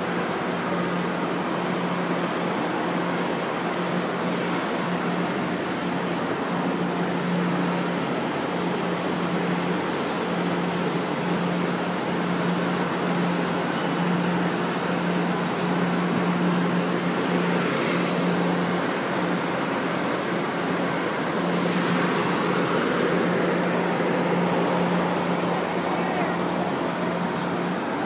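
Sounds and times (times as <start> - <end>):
train machinery humming: 0.0 - 28.0.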